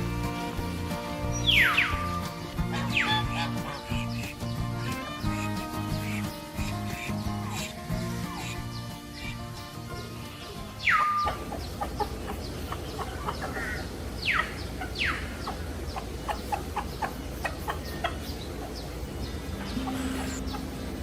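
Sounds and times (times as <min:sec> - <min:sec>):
birds chirping: 0:00.0 - 0:21.0
low background noise: 0:00.0 - 0:21.0.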